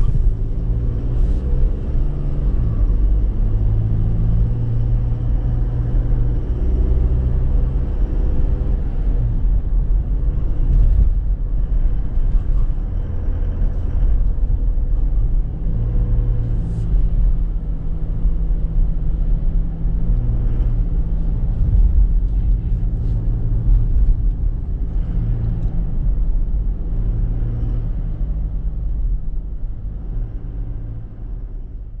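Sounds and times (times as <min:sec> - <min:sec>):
diesel engine running: 0:00.0 - 0:31.8
road noise: 0:00.0 - 0:32.0.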